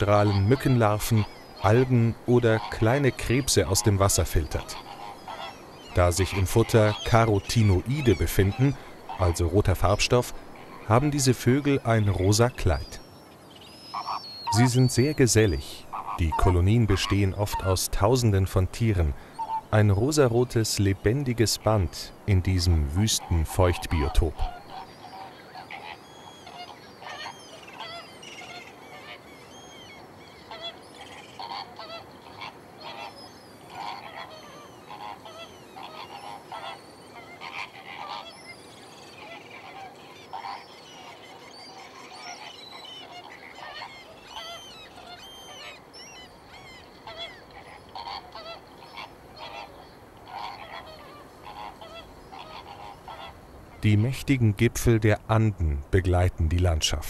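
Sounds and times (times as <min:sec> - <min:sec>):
flamingos calling: 0:00.0 - 0:55.4.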